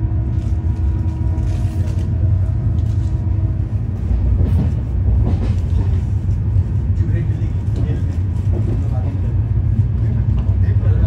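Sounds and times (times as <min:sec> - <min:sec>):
passing train alongside: 0:00.0 - 0:11.0
train rumbling inside coach: 0:00.0 - 0:11.0.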